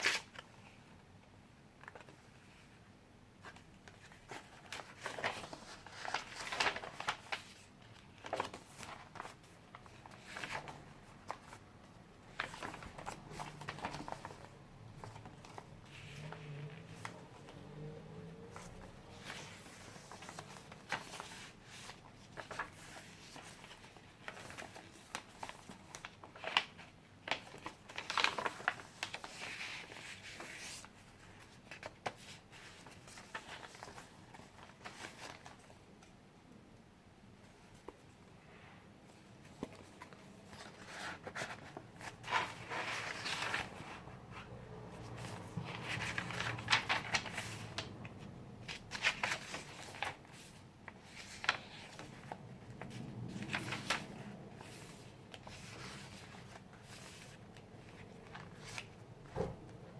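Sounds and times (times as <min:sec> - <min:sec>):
paper pages rustling and flipping: 0:00.0 - 0:00.8, 0:01.8 - 0:02.8, 0:03.4 - 0:11.6, 0:12.2 - 0:36.2, 0:39.1 - 0:59.8.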